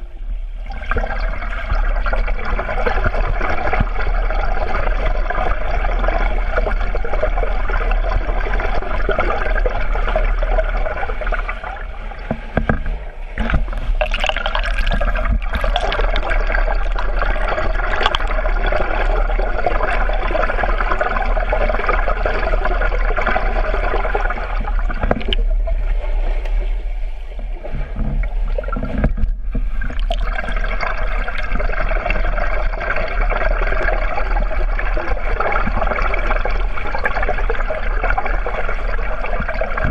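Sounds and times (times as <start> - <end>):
steady low hum: 0.0 - 39.9
underwater churning bubbling water: 0.0 - 39.9.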